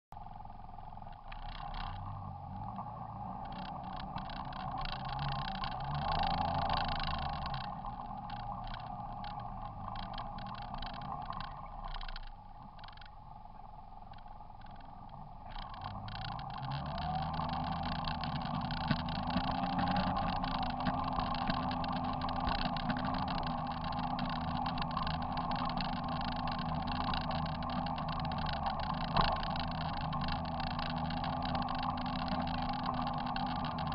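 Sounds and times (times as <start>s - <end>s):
off-road vehicle engine running: 0.1s - 33.9s
rattling and clicking over bumps: 0.2s - 33.9s.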